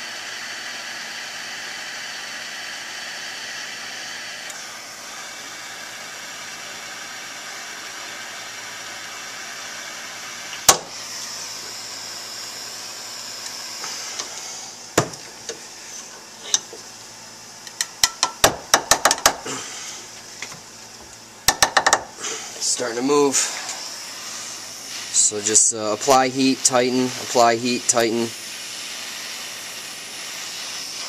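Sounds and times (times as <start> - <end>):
blowtorch flame hissing: 0.0 - 17.8, 19.2 - 31.0.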